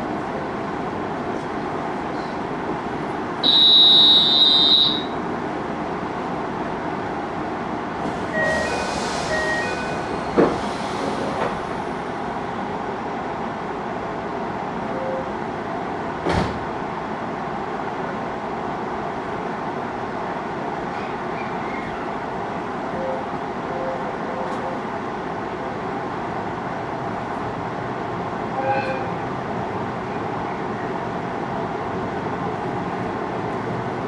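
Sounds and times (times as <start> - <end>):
electric train interior hum: 0.0 - 34.0.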